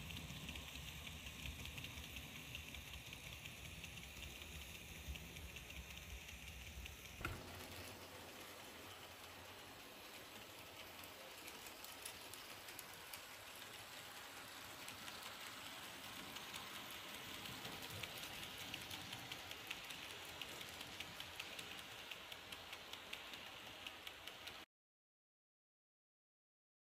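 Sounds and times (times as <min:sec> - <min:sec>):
wheels clicking over rail joints: 0:00.0 - 0:24.6
model train whirring on track: 0:00.0 - 0:24.7.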